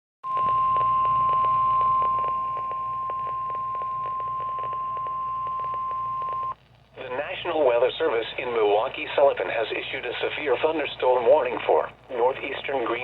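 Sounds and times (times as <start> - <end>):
crackling clicks: 0.2 - 13.0
static hiss: 0.3 - 13.0.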